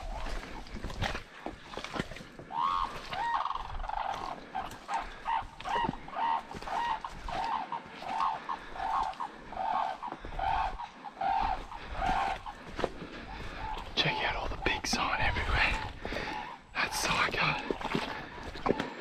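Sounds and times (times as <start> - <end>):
bird calling: 0.0 - 19.0
footsteps through mud and brush: 0.0 - 19.0.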